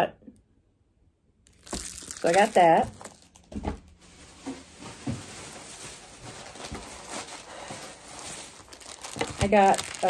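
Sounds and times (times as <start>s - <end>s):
plastic bag rustling: 1.5s - 10.0s.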